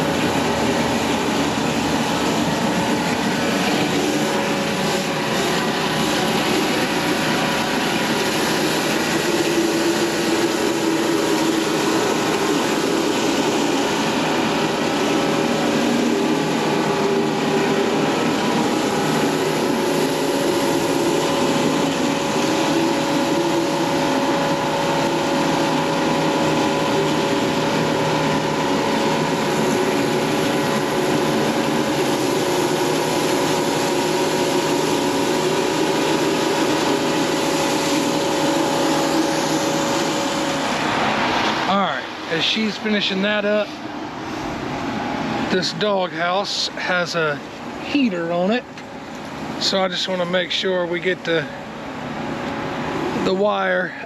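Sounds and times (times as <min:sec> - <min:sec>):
pressure washer running: 0:00.0 - 0:54.0
water spraying onto concrete: 0:00.0 - 0:54.0.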